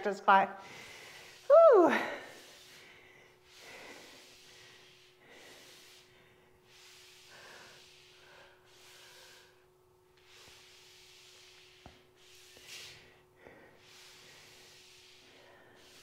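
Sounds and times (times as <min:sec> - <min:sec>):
faint steady hum: 0:00.0 - 0:16.0
woman breathing hard: 0:00.6 - 0:10.8, 0:12.5 - 0:16.0.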